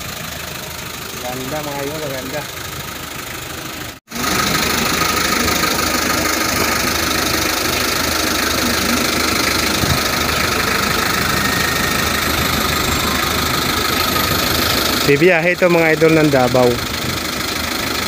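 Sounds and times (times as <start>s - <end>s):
van engine idling: 0.0s - 18.0s.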